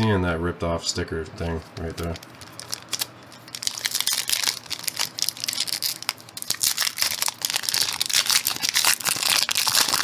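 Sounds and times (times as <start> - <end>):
foil wrapper crinkling and tearing: 1.8 - 10.0.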